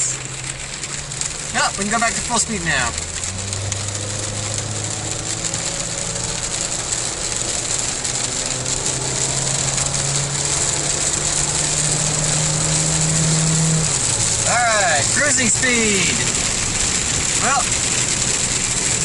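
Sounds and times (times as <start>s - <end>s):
truck engine accelerating: 0.0s - 19.0s
tyres hissing on wet road: 0.0s - 19.0s.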